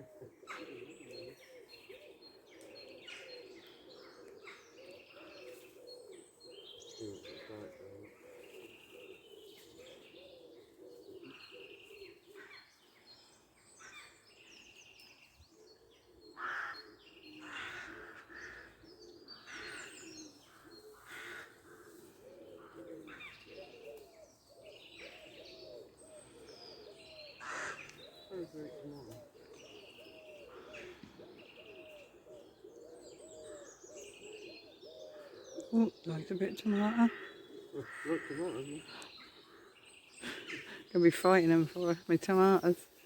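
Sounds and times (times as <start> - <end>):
wavering bird calling: 0.0 - 12.7, 15.7 - 43.0
birds chirping: 0.0 - 43.0
birds cooing: 0.0 - 43.0.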